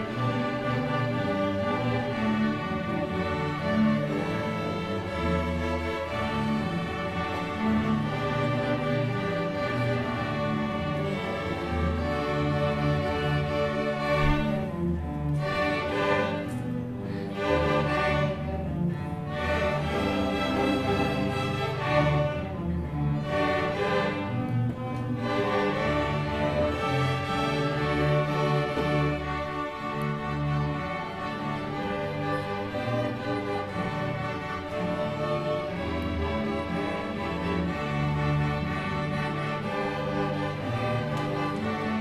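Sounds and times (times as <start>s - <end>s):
cellos and basses: 0.0s - 42.0s
violins: 0.0s - 42.0s.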